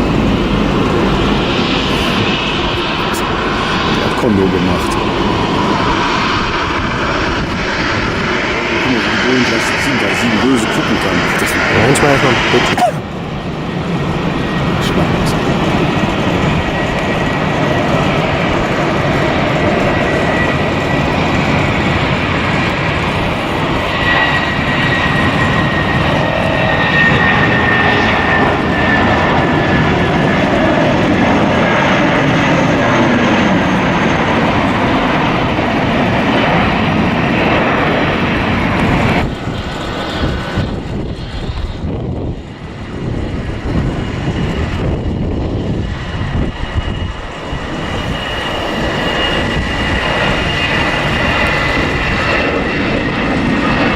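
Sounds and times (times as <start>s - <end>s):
jet airliner engines passing: 0.0s - 53.9s.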